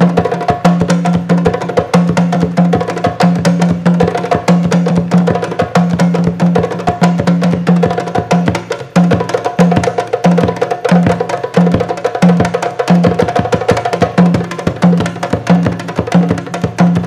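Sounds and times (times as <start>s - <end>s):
djembe drums played by hand: 0.0s - 17.0s
drum beaten with sticks: 0.0s - 17.0s.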